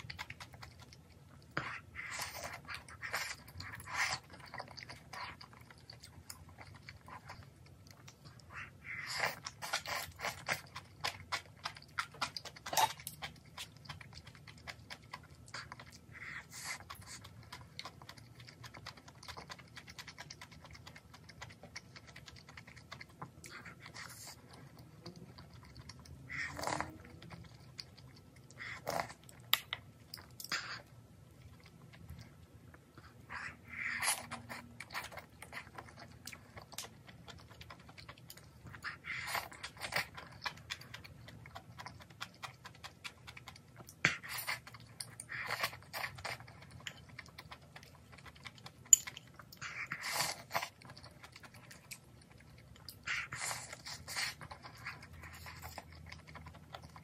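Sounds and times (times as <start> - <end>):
wet chewing clicks: 0.0 - 57.0.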